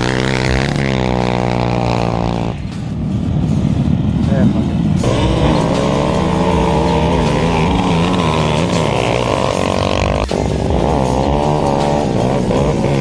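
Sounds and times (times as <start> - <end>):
engines revving hard: 0.0 - 3.6, 4.3 - 13.0.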